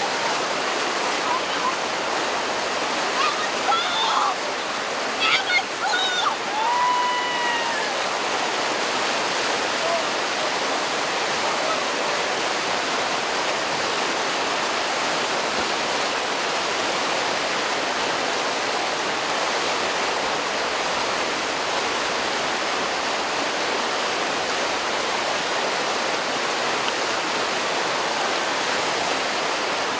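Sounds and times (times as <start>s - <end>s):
whitewater river rushing: 0.0s - 29.9s.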